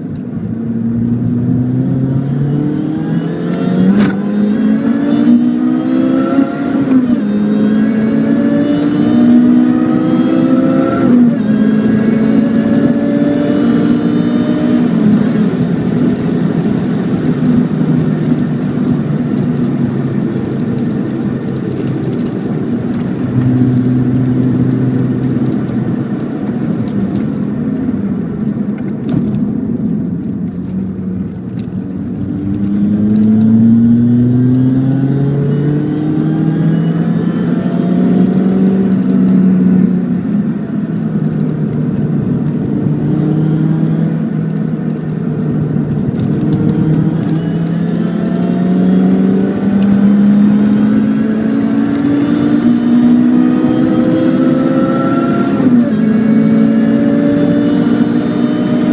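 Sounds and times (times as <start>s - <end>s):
car engine revving: 0.2s - 58.9s.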